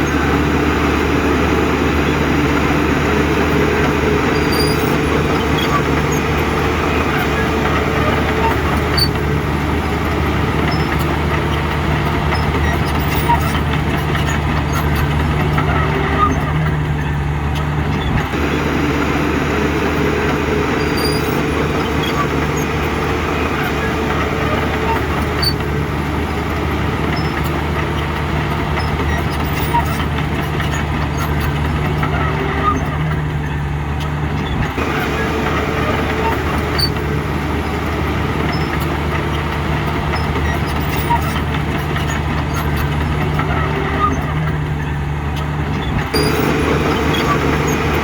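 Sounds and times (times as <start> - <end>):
heavy diesel engine under load: 0.0 - 48.0.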